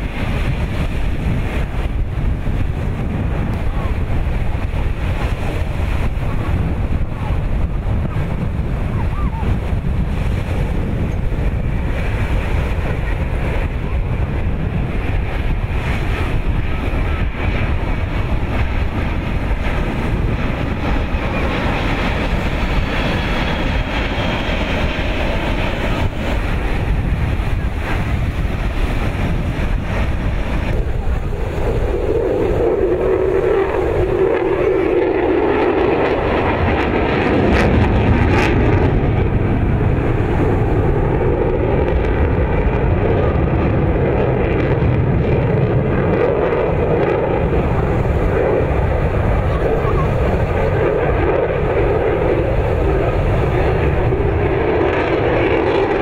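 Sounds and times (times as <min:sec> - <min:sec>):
distant jet aircraft rush: 0:00.0 - 0:56.0
fighter jet engine drone: 0:00.0 - 0:56.0
wind buffeting microphone: 0:00.0 - 0:56.0.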